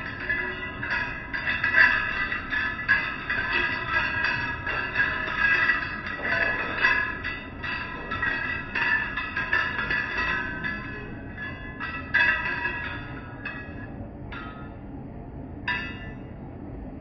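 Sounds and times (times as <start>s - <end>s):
metal clanking on metal: 0.0s - 14.8s, 15.7s - 16.3s
low machinery noise: 0.0s - 17.0s.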